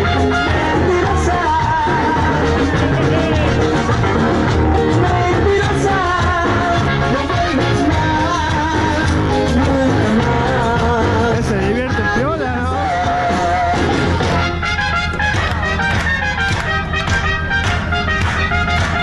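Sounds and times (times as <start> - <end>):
pop music over loudspeakers: 0.0 - 19.0.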